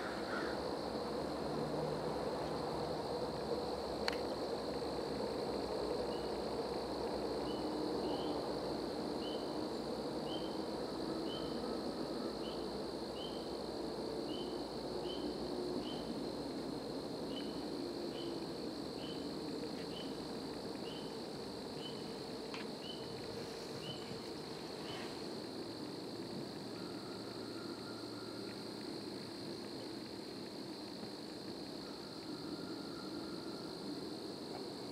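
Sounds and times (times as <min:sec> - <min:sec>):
steady outdoor hiss: 0:00.0 - 0:34.9.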